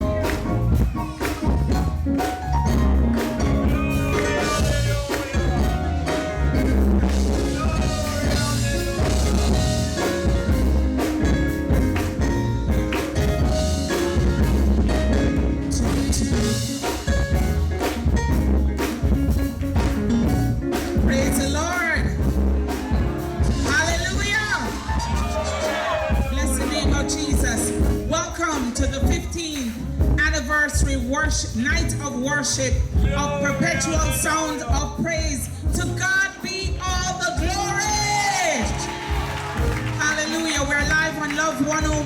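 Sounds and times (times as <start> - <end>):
bass line: 0.0 - 42.0
drum kit: 0.0 - 42.0
gospel band music: 0.0 - 42.0.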